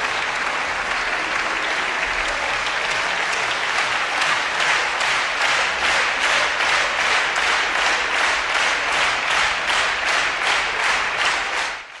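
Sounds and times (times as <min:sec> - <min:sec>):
audience rhythmic applause: 0:00.0 - 0:12.0.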